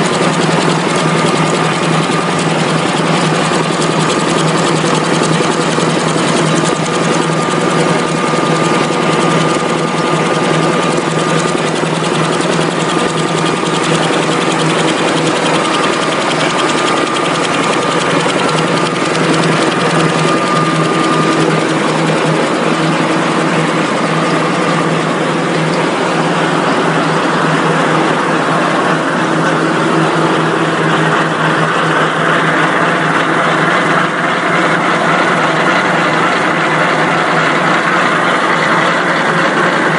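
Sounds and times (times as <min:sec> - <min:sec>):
machine mechanical din: 0:00.0 - 0:39.9
thin machine whine: 0:00.0 - 0:39.9.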